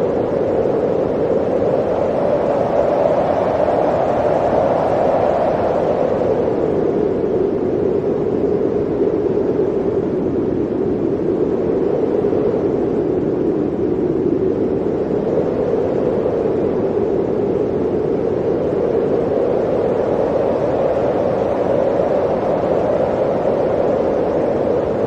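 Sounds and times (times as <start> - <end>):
blizzard wind blowing: 0.0 - 25.0.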